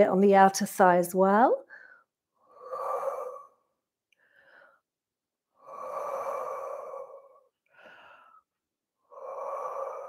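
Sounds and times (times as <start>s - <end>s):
woman breathing: 1.7s - 10.0s.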